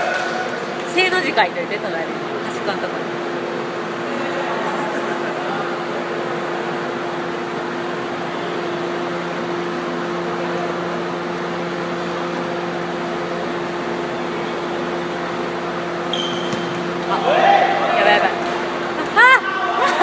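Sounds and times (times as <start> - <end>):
air-moving machinery humming: 0.0 - 20.0.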